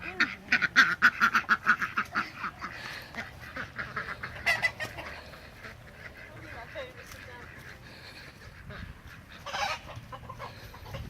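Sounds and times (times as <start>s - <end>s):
chickens squawking: 0.0s - 11.0s.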